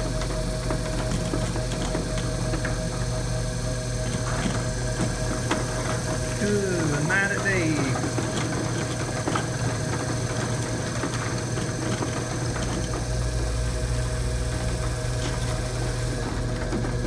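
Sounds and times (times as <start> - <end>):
conveyor hum and rattle: 0.0 - 17.0.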